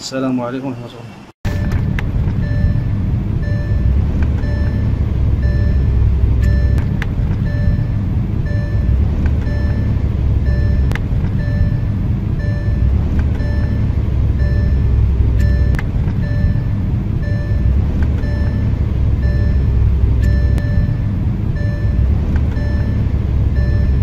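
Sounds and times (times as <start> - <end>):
car engine and road rumble: 1.4 - 24.0
short electronic beeps: 1.5 - 24.0.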